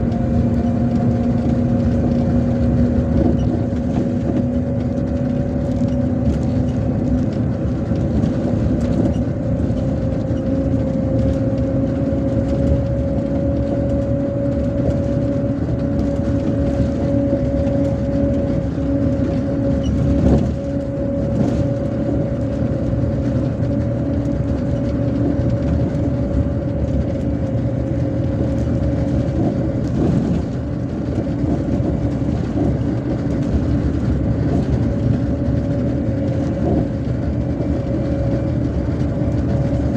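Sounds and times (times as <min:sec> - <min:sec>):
bus engine and road rumble: 0:00.0 - 0:39.9
constant whine: 0:00.0 - 0:39.9.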